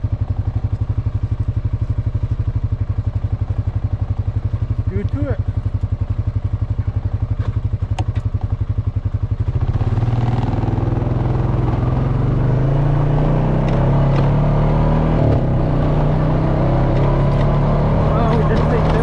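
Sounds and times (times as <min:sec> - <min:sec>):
quad bike engine idling and revving: 0:00.0 - 0:19.0.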